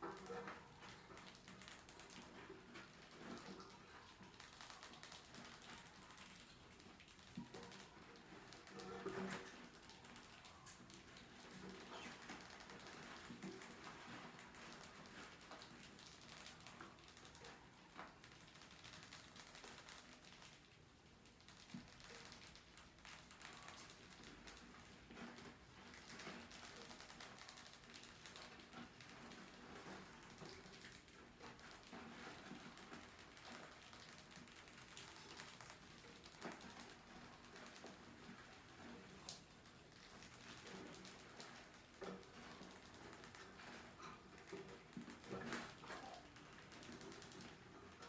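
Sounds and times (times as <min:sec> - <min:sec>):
mouse claws scratching: 0:00.1 - 0:48.0.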